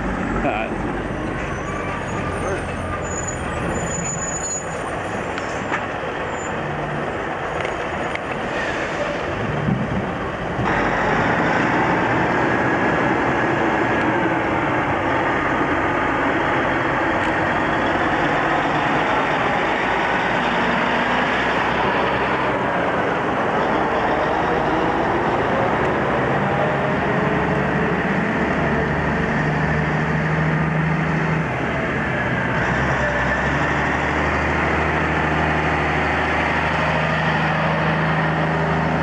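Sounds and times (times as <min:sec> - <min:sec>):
diesel trucks driving by: 0:00.0 - 0:39.0
tyre noise on road: 0:00.0 - 0:39.0.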